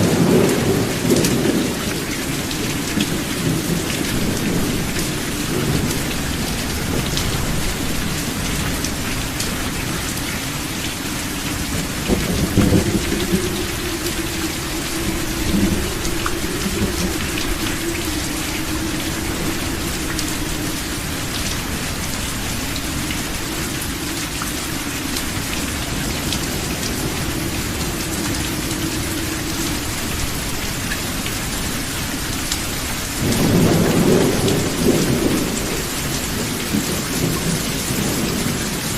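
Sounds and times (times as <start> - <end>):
heavy rain pattering: 0.0 - 38.9
thunder rumbling: 0.0 - 38.9.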